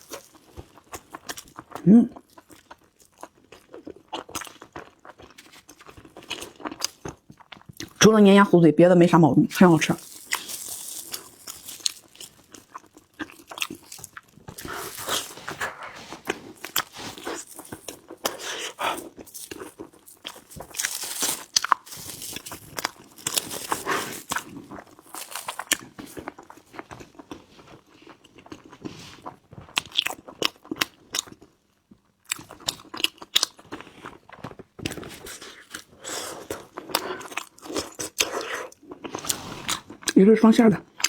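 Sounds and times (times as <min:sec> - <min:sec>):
wet chewing and smacking: 0:00.0 - 0:08.0, 0:09.6 - 0:40.2.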